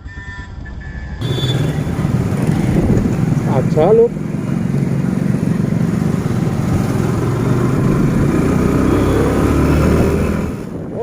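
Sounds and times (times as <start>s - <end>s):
road noise: 0.0s - 11.0s
wind: 0.0s - 11.0s
motorcycle engine running: 1.2s - 10.8s.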